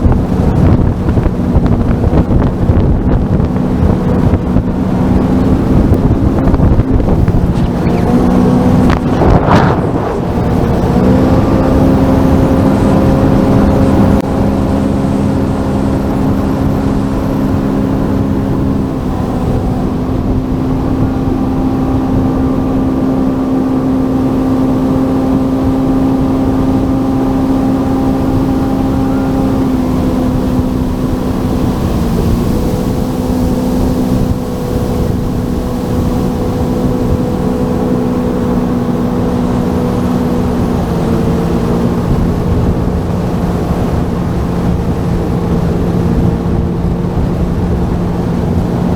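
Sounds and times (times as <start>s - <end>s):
jet ski engine running: 0.0s - 48.9s
wind and water rushing: 0.0s - 48.9s.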